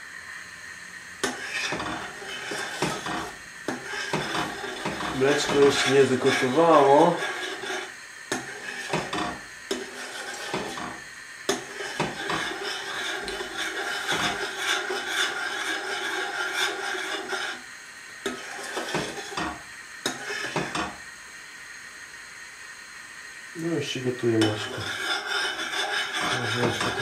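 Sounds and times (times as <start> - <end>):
steady hiss: 0.0 - 27.0
metal spoon stirring in saucepan: 1.2 - 17.6, 18.2 - 21.0, 24.2 - 27.0.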